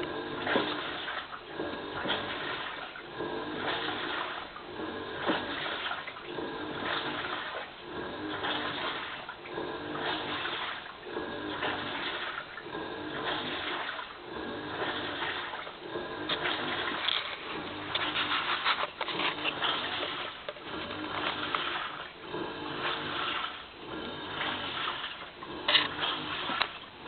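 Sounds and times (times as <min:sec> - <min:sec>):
washing machine motor whine: 0:00.0 - 0:27.0
washing machine water swishing: 0:00.0 - 0:27.0.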